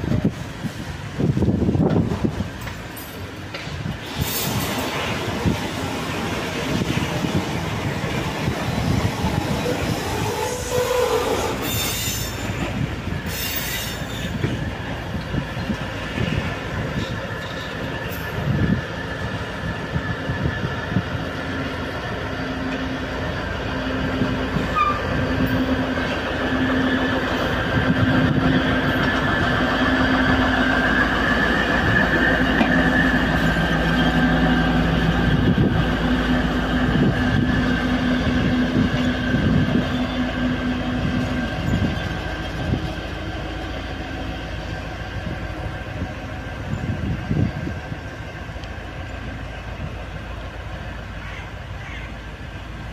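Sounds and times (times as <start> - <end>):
locomotive hum: 0.0 - 52.9.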